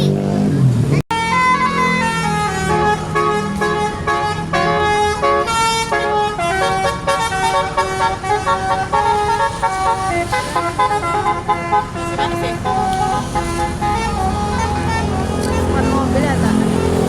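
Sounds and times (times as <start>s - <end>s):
vehicle melody horn: 1.1s - 17.0s.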